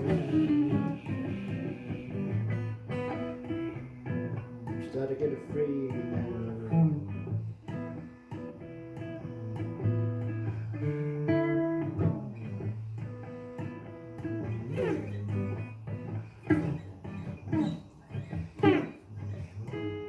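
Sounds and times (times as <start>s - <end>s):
blues guitar playing: 0.0s - 20.0s.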